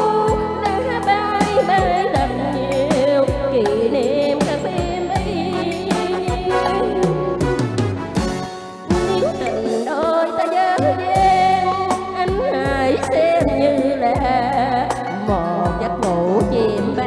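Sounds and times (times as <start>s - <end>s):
woman singing into a microphone: 0.0s - 7.4s, 8.9s - 17.0s
backing music with drum beat: 0.0s - 17.0s.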